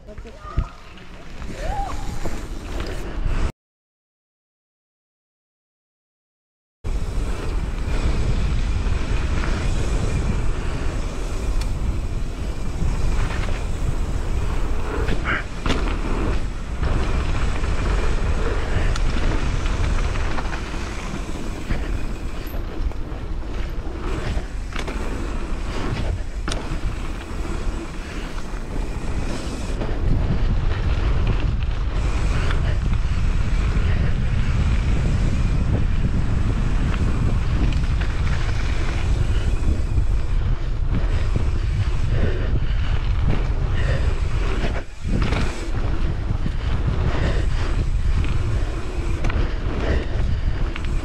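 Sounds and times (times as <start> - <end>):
bike tyres rolling on gravel: 0.0 - 3.5, 6.9 - 51.0
wind rushing over microphone: 0.0 - 3.5, 6.9 - 51.0
bike knocks and rattles: 7.3 - 42.4, 43.2 - 51.0.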